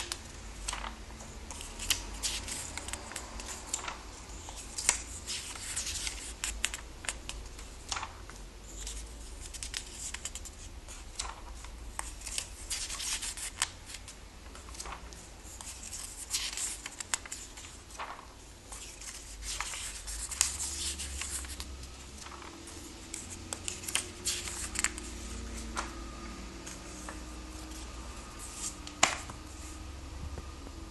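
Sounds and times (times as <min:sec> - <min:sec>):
paper pages rustling and flicking: 0:00.0 - 0:29.8.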